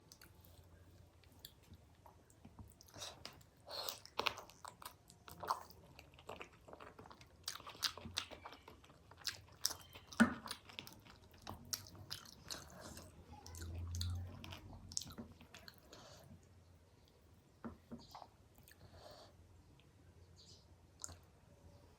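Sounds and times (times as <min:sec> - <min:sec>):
person chewing food: 0:00.0 - 0:17.2, 0:21.0 - 0:21.4.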